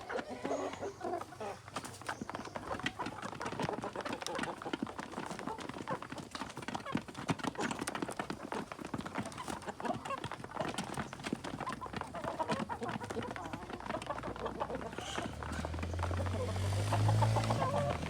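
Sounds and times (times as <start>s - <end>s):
chickens clucking: 0.0s - 18.0s
chickens pecking: 0.0s - 18.0s.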